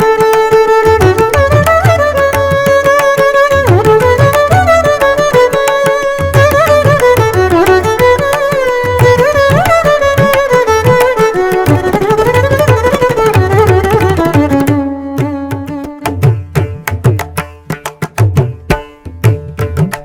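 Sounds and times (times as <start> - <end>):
mridangam drumming: 0.0 - 20.0.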